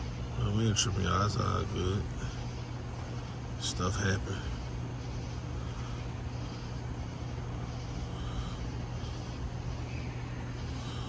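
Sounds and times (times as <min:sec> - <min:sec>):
background hiss: 0:00.0 - 0:11.0
low mechanical hum: 0:00.0 - 0:11.0.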